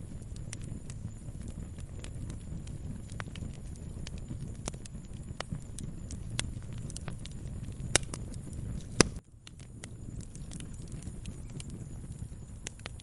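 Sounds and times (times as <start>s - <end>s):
fire crackles: 0.0s - 13.0s
loud fire pops: 0.0s - 13.0s
low rumble of flames: 0.0s - 13.0s.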